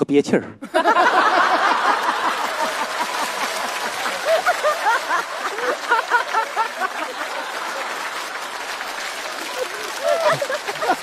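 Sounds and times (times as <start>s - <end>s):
studio audience laughing: 0.6s - 11.0s
audience applauding: 0.9s - 11.0s.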